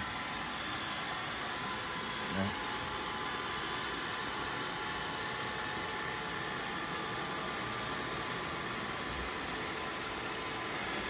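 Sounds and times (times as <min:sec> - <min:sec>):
robot vacuum running: 0:00.0 - 0:11.0.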